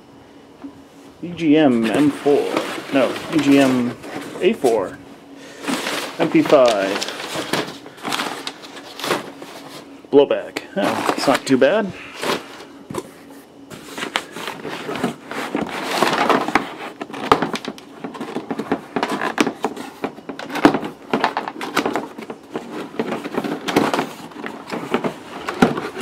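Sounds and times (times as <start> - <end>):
cardboard packaging rustling: 1.7 - 9.9, 10.8 - 26.0.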